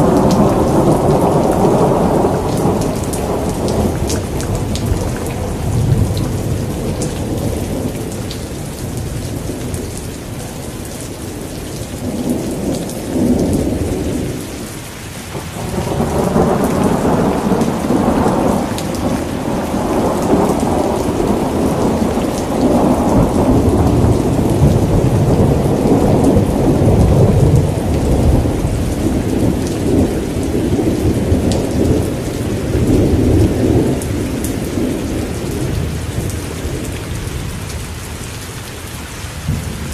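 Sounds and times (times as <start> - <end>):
rolling thunder: 0.0 - 10.0, 15.3 - 37.8, 39.4 - 39.9
steady rain falling: 0.0 - 39.9.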